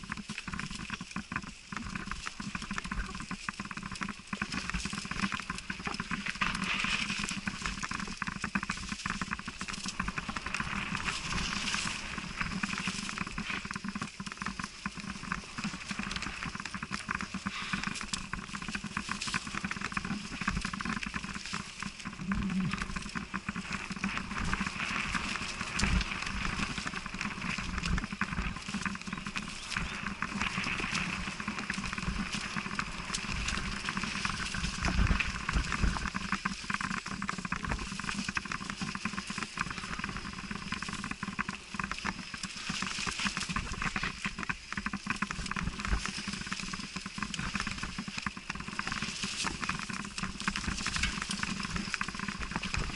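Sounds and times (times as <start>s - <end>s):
bike rattling and knocking: 0.0s - 52.9s
bike tyres crunching over leaves: 0.0s - 52.9s.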